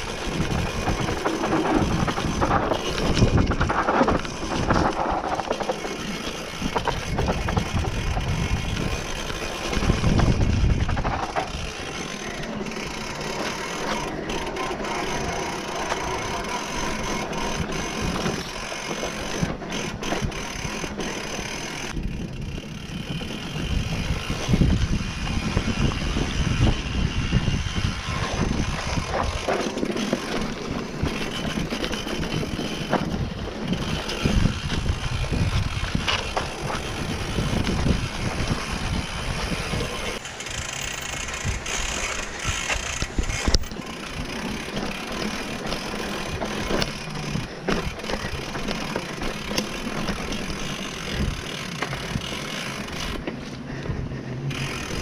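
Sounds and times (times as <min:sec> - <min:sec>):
chain and frame rattling: 0:00.0 - 0:24.7, 0:26.5 - 0:53.2
bike tyres rolling on dirt: 0:00.0 - 0:55.0.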